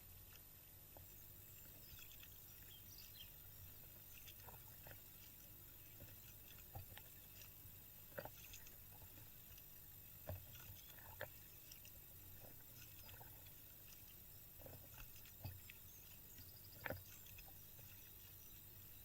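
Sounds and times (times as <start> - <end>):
kayak paddle splashing water: 1.0 - 19.0.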